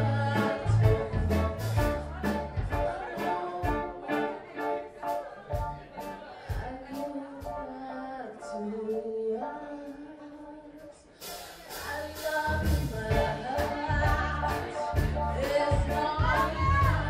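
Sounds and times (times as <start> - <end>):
live rock band playing: 0.0 - 9.2, 11.1 - 17.0
woman singing: 0.0 - 11.1, 11.7 - 17.0.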